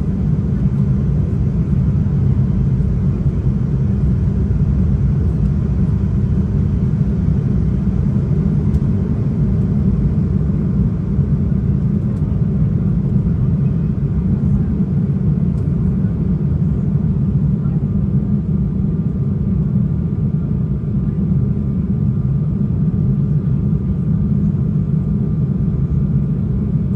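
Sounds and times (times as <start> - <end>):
jet cabin engine rumble: 0.0 - 26.9.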